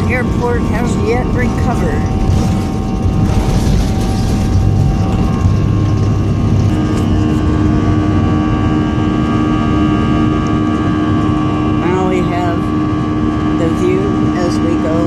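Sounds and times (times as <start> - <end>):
engines and airflow rushing: 0.0 - 15.0
steady engine tones: 0.0 - 15.0.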